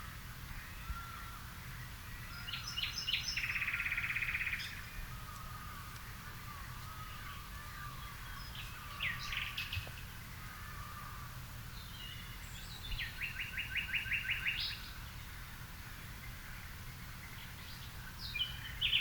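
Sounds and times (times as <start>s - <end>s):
birds singing: 0.0s - 19.0s.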